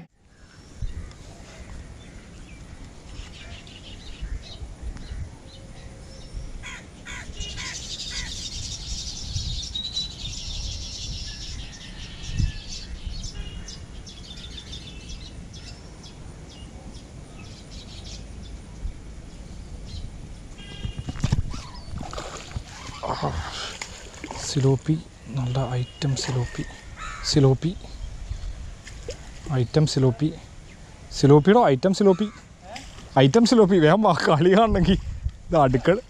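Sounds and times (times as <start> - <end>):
birds chirping and calling: 0.3 - 34.7.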